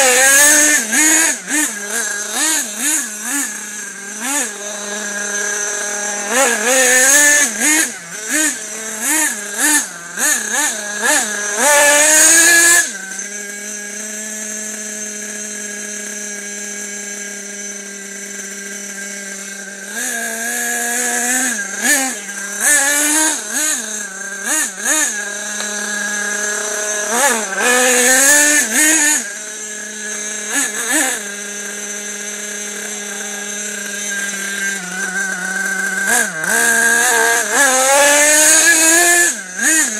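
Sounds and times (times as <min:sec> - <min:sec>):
small engine revving and idling: 0:00.0 - 0:39.9.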